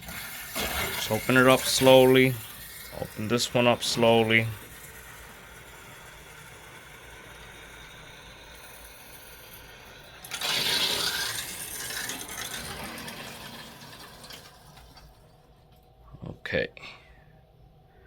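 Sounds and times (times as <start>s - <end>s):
water hissing through valve: 0.0s - 15.3s.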